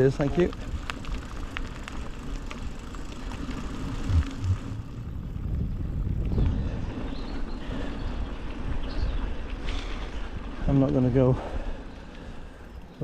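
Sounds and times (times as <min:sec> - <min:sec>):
wind and tyre rumble: 0:00.0 - 0:13.0.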